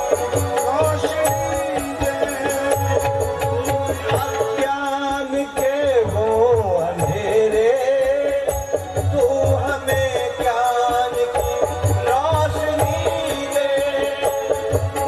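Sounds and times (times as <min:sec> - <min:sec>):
person singing through microphone: 0:00.0 - 0:15.0.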